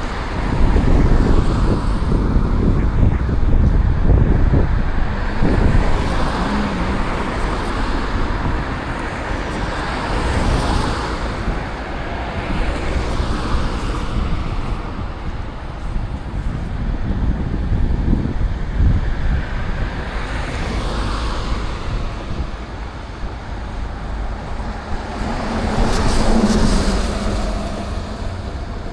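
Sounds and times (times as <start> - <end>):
road traffic passing: 0.0 - 28.9
wind rumble on microphone: 0.0 - 28.9.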